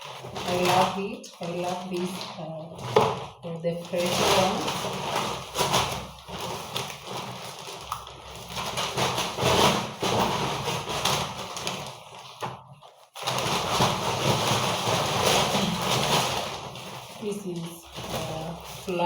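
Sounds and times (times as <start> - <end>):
plastic bag rustling: 0.0 - 19.0.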